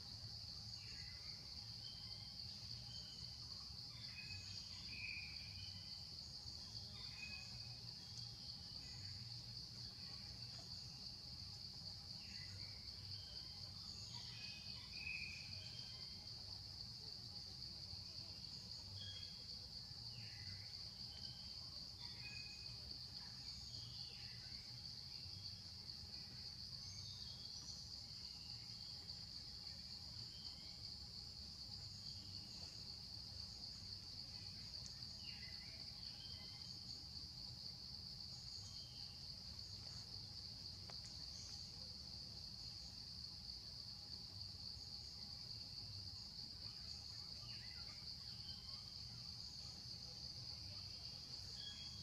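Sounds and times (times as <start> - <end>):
insects droning: 0.0 - 52.0.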